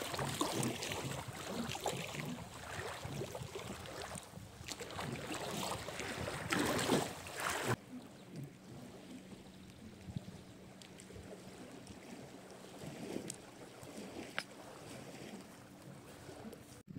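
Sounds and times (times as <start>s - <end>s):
water lapping: 0.0s - 16.9s.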